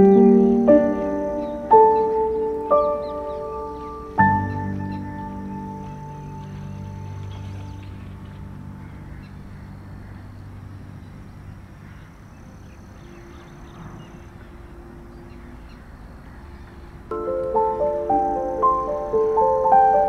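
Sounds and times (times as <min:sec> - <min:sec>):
soft ambient music: 0:00.0 - 0:20.0
waterbirds calling: 0:00.0 - 0:20.0.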